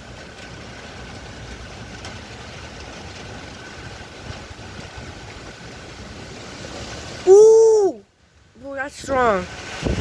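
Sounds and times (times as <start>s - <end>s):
rain rushing: 0.0s - 10.0s
wind buffeting microphone: 0.1s - 7.2s, 8.6s - 10.0s.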